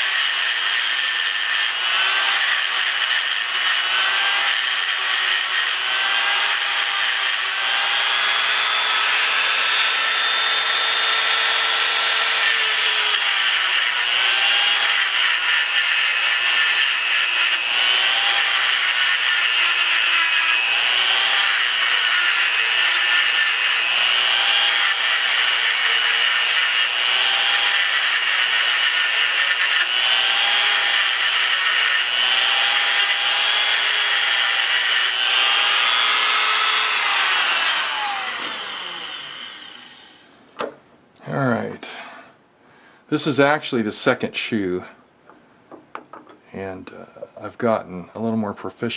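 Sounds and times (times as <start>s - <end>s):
rotary tool grinding whine: 0.0s - 40.4s.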